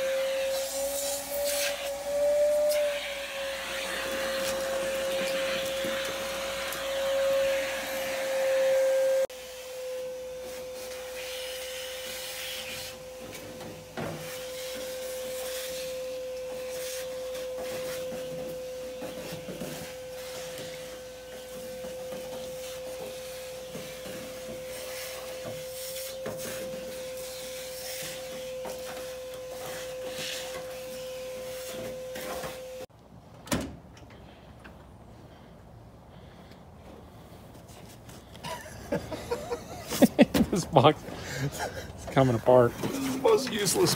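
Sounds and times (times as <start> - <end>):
vacuum cleaner whining: 0.0 - 32.9, 39.1 - 43.9.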